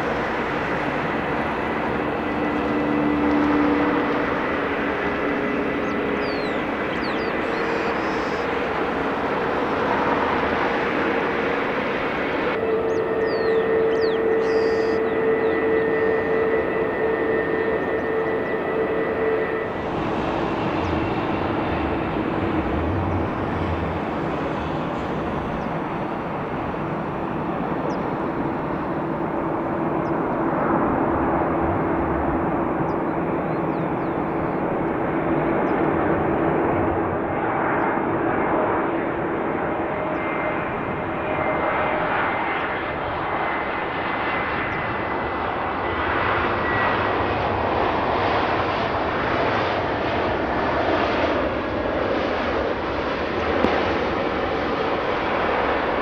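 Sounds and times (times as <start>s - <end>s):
aircraft engines running: 0.0s - 56.0s.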